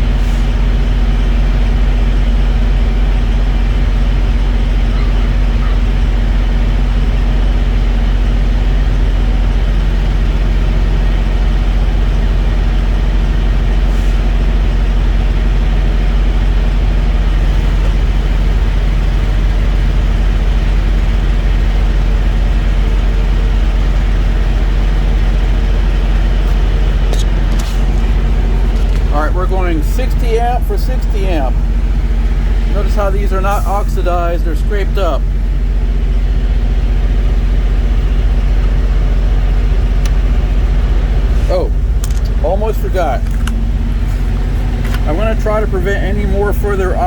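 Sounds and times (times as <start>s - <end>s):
diesel truck engine idling: 0.0s - 47.0s.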